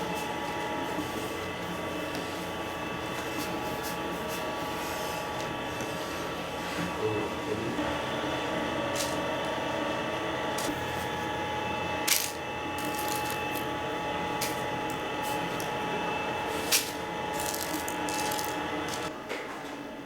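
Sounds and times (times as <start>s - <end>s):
machinery hum: 0.0s - 20.0s.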